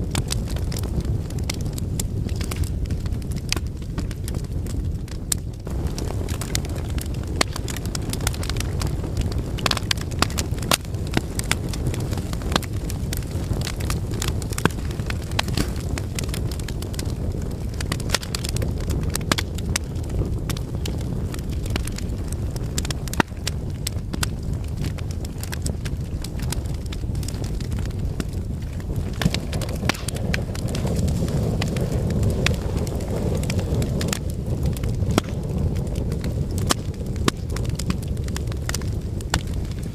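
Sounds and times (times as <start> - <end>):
fire crackles and pops: 0.0 - 39.9
flames rumbling: 0.0 - 39.9.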